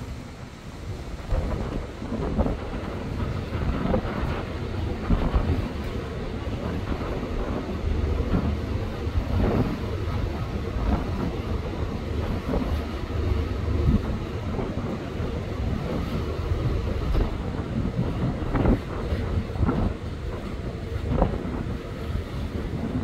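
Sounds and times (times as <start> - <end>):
ship rumbling: 0.0 - 23.0
wind buffeting microphone: 0.0 - 23.0.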